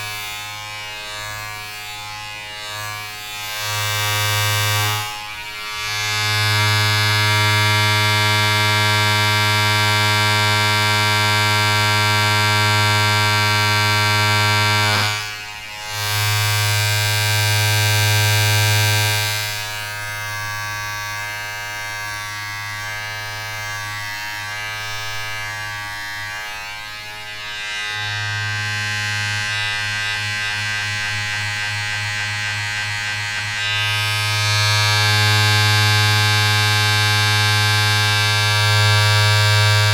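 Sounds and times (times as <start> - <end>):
electric buzz: 0.0 - 39.9.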